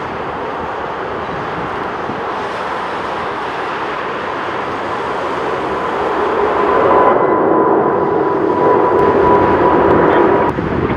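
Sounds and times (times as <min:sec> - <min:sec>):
jet engine roar: 0:00.0 - 0:10.9.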